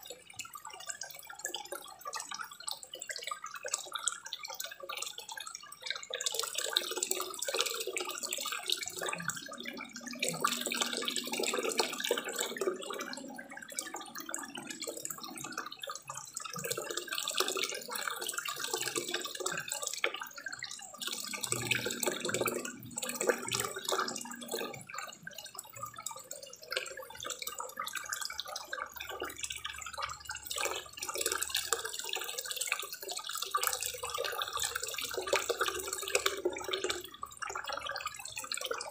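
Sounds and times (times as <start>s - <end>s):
water pouring into pond: 0.0s - 38.9s.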